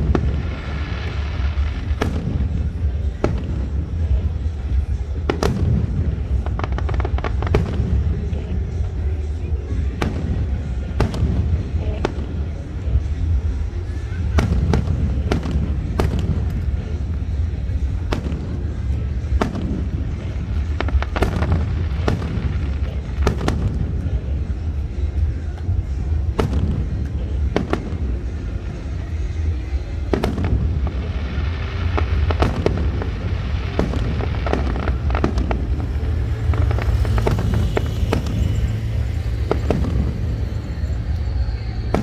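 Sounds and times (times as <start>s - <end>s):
fireworks bangs: 0.0s - 42.0s
low rumble: 0.0s - 42.0s.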